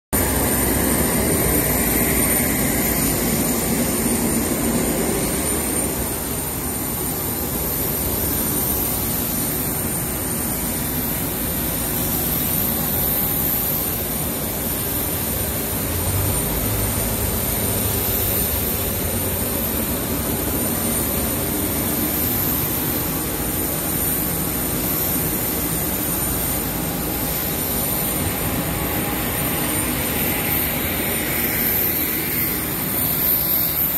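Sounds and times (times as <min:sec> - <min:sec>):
high turbine whine: 0:00.2 - 0:33.9
jet turbine drone: 0:00.2 - 0:33.9.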